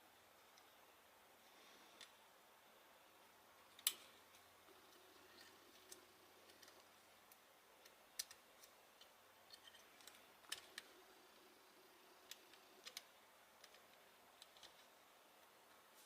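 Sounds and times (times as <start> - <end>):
faint clicks and metallic ticks: 0.3 - 0.8, 1.4 - 2.2, 3.6 - 16.0.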